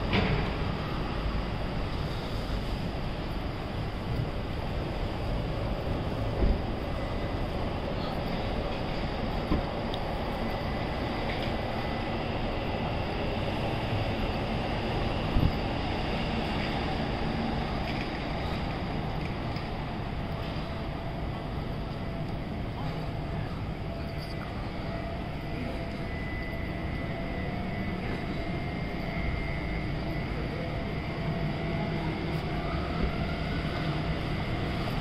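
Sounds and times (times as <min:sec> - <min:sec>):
traffic rumble: 0:00.0 - 0:35.0.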